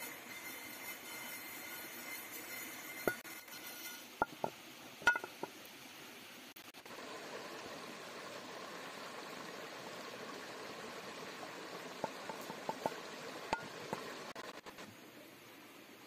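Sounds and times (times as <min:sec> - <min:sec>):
stream water rushing: 0:02.3 - 0:16.0.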